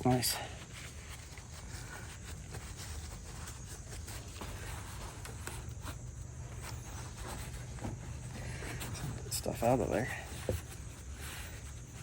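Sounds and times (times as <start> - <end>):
hands rubbing and scraping parts: 0.0 - 12.0
steady low hum: 0.0 - 12.0.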